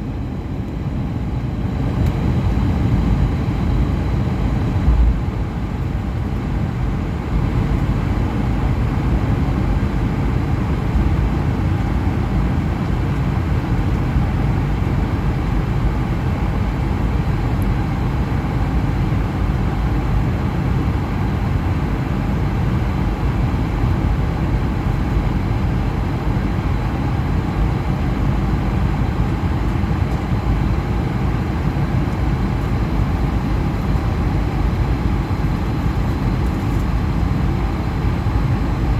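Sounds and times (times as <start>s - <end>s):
jet engine rumble: 0.0s - 38.9s.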